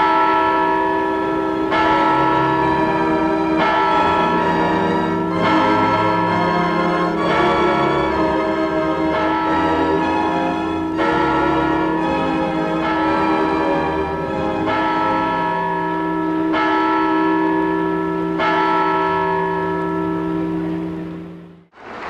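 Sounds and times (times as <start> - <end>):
clock-tower bell striking: 0.0 - 21.7.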